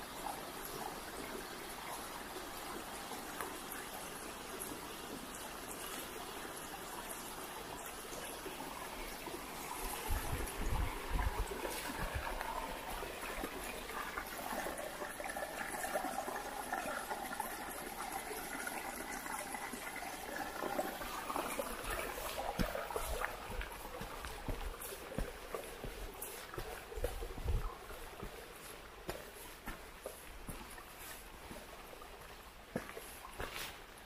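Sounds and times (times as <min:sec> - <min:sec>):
water trickling: 0:00.0 - 0:34.0.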